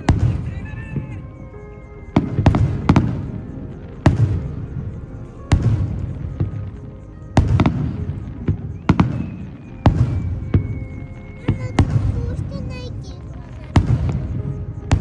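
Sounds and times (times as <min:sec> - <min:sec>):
firework shells booming: 0:00.0 - 0:01.4, 0:02.0 - 0:15.0.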